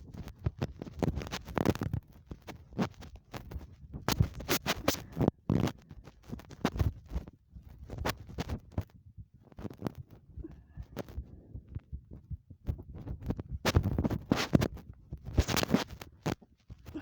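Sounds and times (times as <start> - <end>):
scratching and rubbing knocks: 0.0 - 10.2, 10.9 - 17.0.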